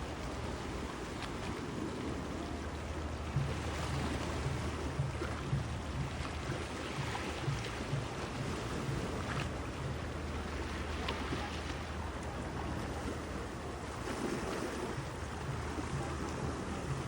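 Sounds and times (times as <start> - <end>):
waves washing onto beach: 0.0 - 17.0.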